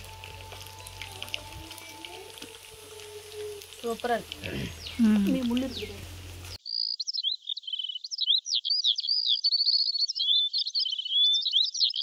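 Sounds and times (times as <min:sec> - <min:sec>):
outdoor ambience: 0:00.0 - 0:12.0
birdsong chirps and trills: 0:00.7 - 0:12.0.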